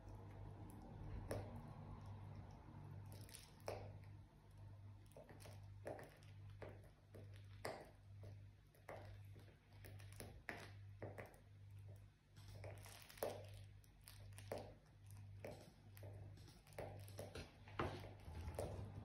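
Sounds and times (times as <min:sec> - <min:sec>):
puppy chewing soft toy: 0:00.0 - 0:19.0.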